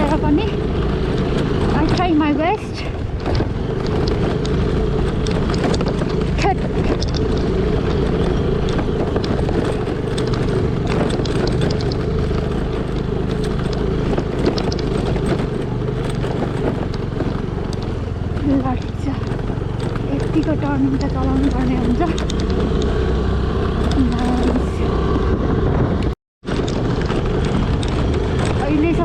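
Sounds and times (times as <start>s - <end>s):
knocks and rattles from bumps: 0.0s - 25.1s
scooter engine running: 0.0s - 29.0s.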